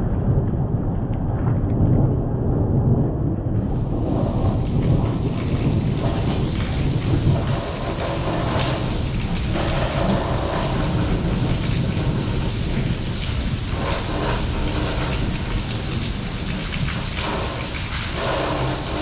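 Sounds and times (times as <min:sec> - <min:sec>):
steady rain falling: 0:00.0 - 0:19.0
thunder rumbling: 0:00.0 - 0:19.0.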